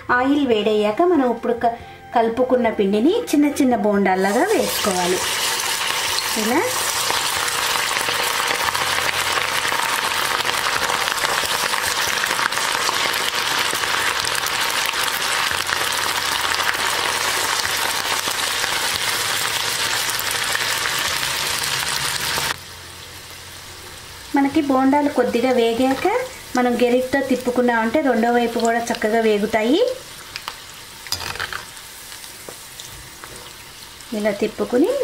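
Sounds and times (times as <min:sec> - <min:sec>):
food sizzling in hot oil: 0:04.2 - 0:35.0.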